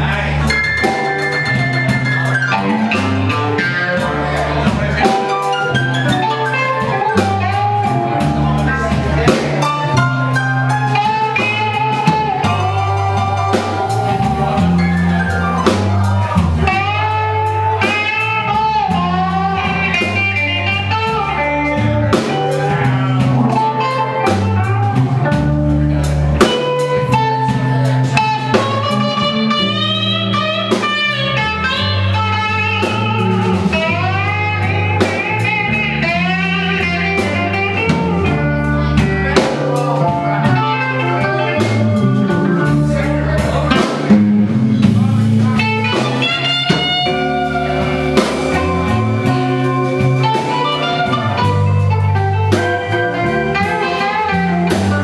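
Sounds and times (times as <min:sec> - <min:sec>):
blues band playing: 0:00.0 - 0:55.0
electric guitar lead: 0:00.0 - 0:55.0.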